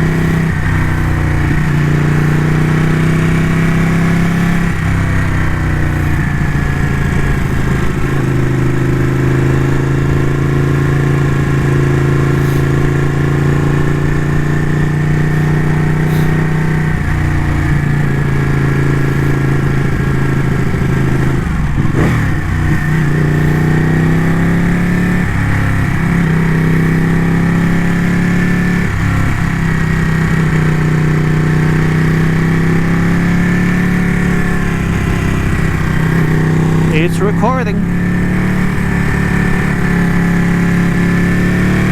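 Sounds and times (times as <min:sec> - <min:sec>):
motorcycle engine cruising: 0:00.0 - 0:41.9.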